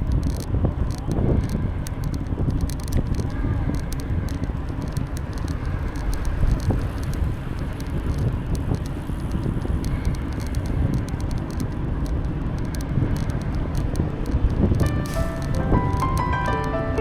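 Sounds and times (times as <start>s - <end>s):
bike ticks and rattles: 0.0s - 14.8s
bicycle tyres on path: 0.0s - 15.3s.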